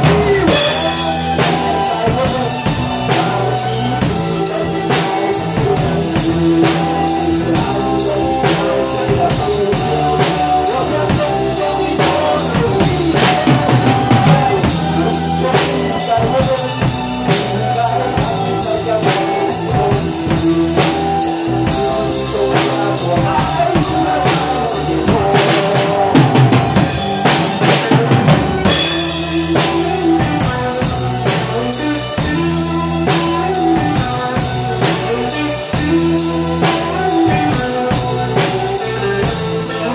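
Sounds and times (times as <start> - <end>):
drum kit playing: 0.0 - 39.9
rock backing track: 0.0 - 39.9.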